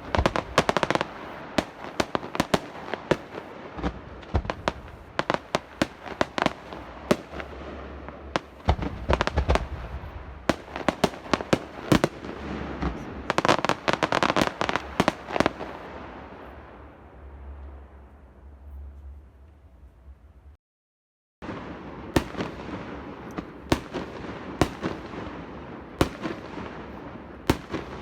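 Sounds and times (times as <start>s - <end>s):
fireworks bangs and crackles: 0.0s - 17.0s, 21.4s - 28.0s
fireworks rumble: 0.0s - 20.6s, 21.4s - 28.0s.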